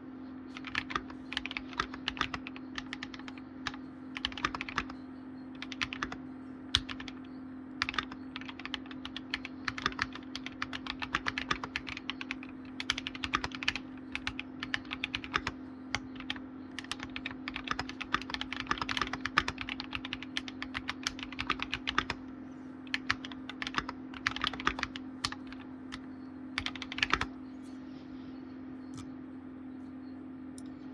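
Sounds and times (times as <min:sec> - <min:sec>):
typing on keyboard: 0:00.6 - 0:05.0, 0:05.6 - 0:22.2, 0:22.9 - 0:27.4.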